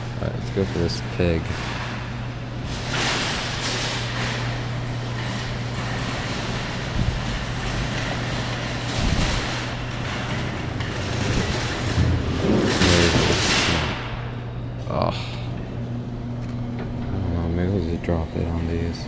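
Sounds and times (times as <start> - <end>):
claw machine motor hum: 0.0 - 19.0
noisy background: 0.0 - 19.0.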